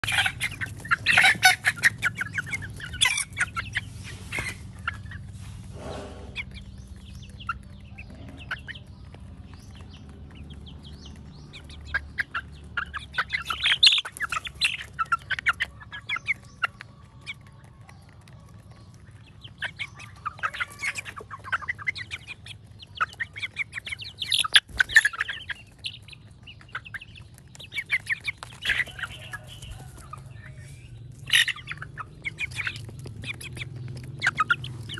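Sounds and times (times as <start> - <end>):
beaks pecking grain on dirt: 0.0 - 34.9
chickens clucking: 0.0 - 34.9.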